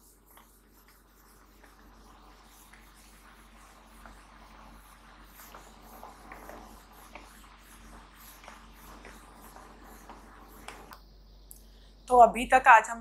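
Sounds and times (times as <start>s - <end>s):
eraser rubbing whiteboard: 0.0s - 11.0s.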